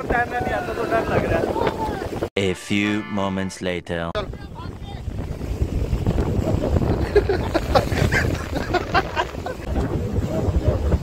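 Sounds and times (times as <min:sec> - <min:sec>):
wind buffeting microphone: 0:00.0 - 0:02.3, 0:04.2 - 0:11.0.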